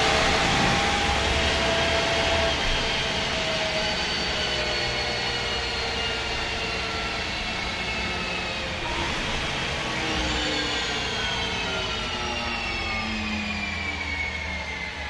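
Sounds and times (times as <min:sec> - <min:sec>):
drivetrain whine: 0:00.0 - 0:15.0.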